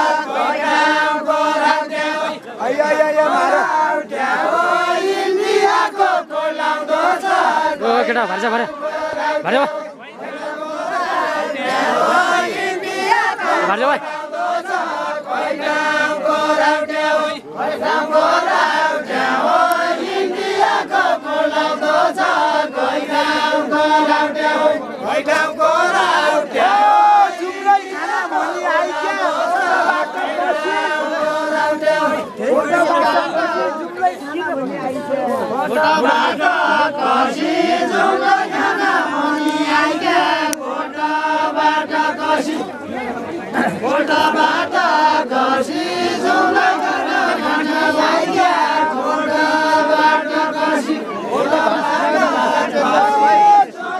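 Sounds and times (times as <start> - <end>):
group singing folk song: 0.0 - 53.9.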